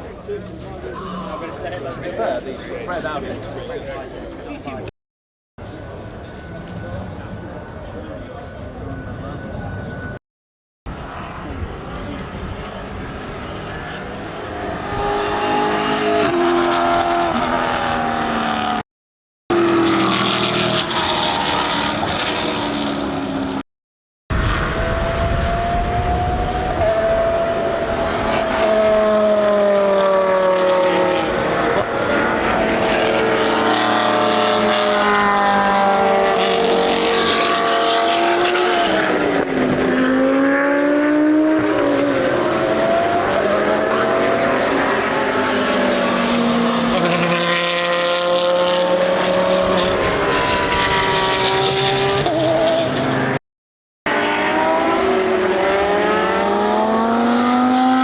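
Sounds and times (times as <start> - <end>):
racing car engines revving and passing: 0.0 - 4.9, 10.9 - 18.8, 19.5 - 23.6, 24.4 - 53.4, 54.1 - 58.0.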